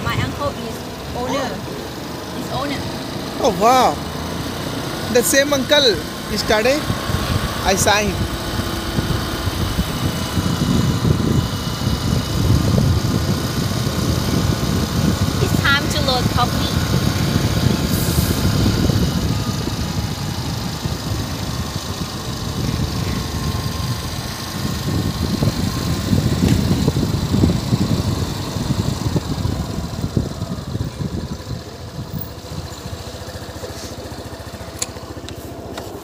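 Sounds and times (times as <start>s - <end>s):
motorbike engine running: 0.0s - 36.0s
wind buffeting microphone: 6.4s - 35.2s.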